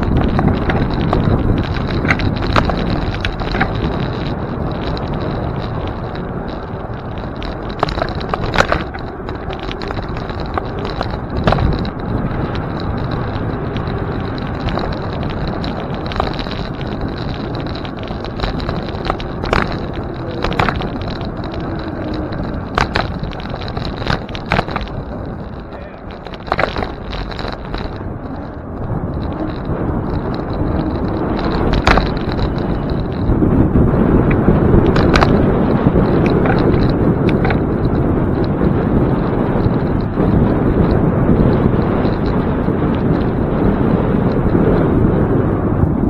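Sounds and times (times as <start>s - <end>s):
bike clicks and rattles: 0.0s - 46.0s
wind and rolling bicycle: 0.0s - 46.0s.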